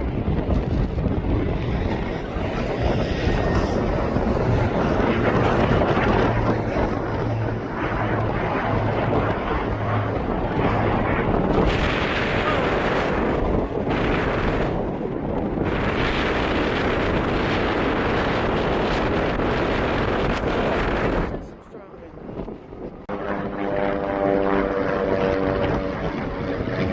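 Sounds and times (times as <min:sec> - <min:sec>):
strong wind buffeting microphone: 0:00.0 - 0:26.9.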